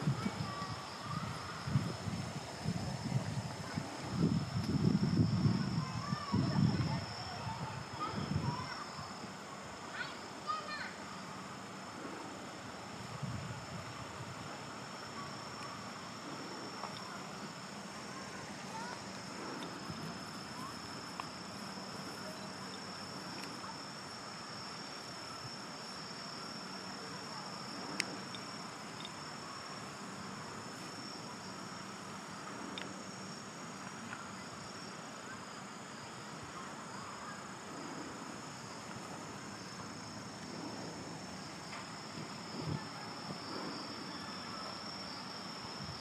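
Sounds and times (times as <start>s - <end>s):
high-pitched insect chorus: 0.0s - 46.0s.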